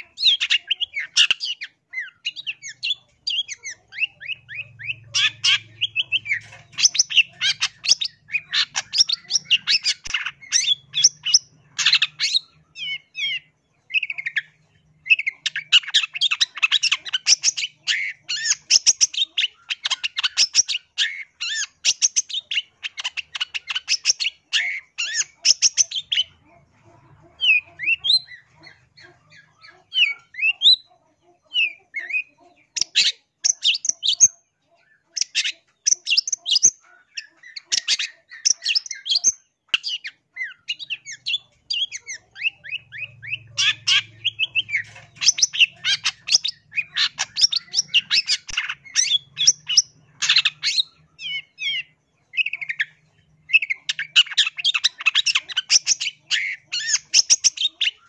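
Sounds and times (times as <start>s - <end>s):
bird singing scratchy chattering notes: 0.0s - 58.0s.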